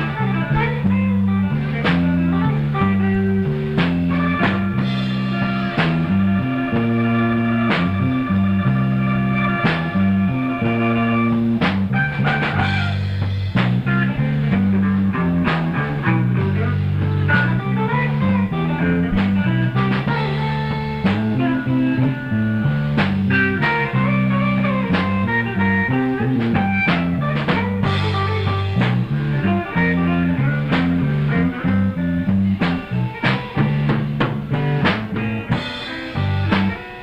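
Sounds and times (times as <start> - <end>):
bass line: 0.0 - 37.0
blues guitar lines: 0.0 - 37.0
drum kit: 0.0 - 37.0.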